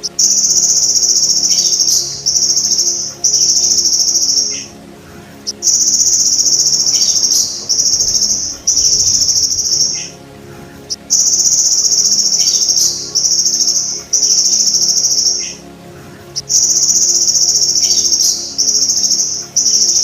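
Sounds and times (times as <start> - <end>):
insect buzzing trills: 0.0 - 20.0.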